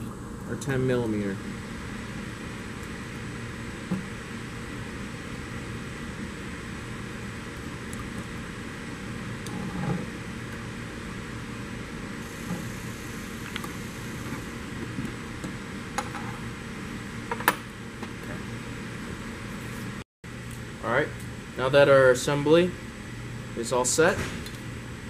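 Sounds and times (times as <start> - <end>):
ventilation hum: 0.0 - 25.0.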